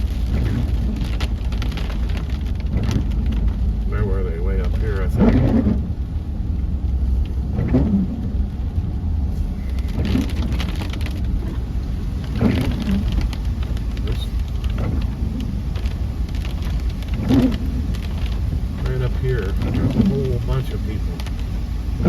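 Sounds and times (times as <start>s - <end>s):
car driving on wet road: 0.0s - 22.0s
windshield wipers sweeping: 0.0s - 22.0s.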